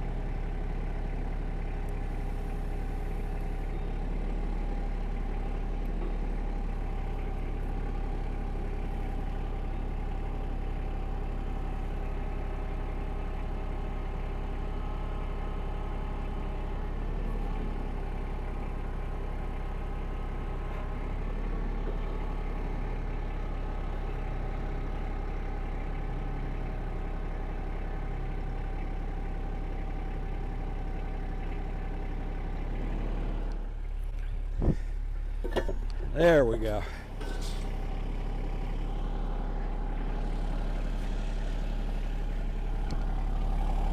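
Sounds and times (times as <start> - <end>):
engine idling: 0.0 - 43.9.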